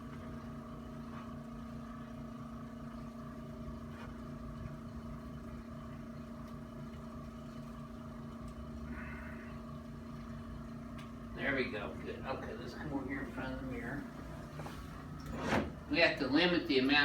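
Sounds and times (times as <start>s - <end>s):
pulsing mechanical hum: 0.0s - 17.0s.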